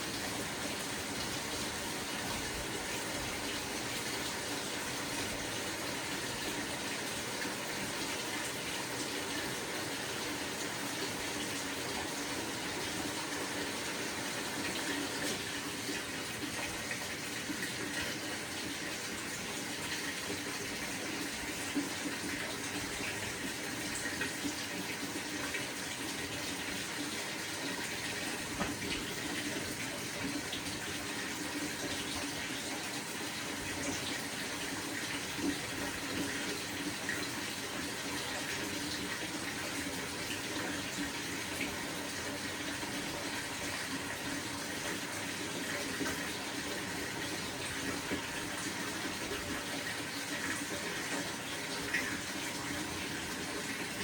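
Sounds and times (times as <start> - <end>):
washing machine filling with water: 0.0 - 54.0.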